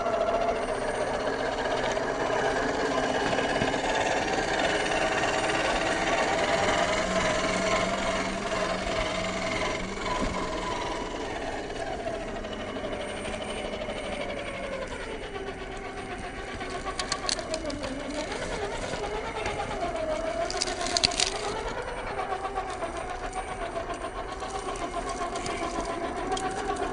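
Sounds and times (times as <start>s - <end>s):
toy truck electric motor whining: 0.0s - 26.9s.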